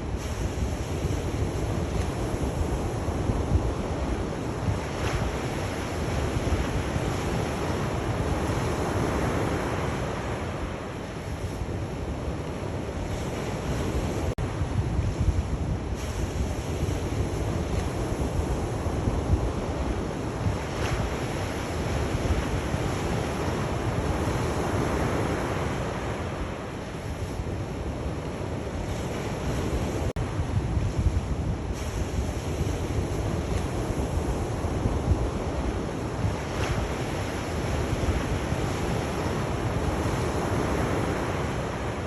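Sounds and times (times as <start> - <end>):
low wind rumble on microphone: 0.0 - 42.0
sea waves washing ashore: 0.0 - 42.0.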